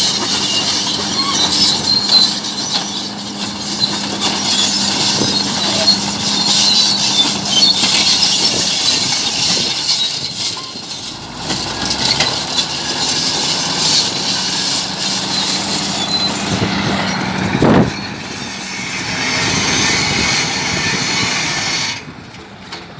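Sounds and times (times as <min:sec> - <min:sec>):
bulldozer diesel engine: 0:00.0 - 0:22.9
metallic clanking and scraping: 0:00.0 - 0:22.9.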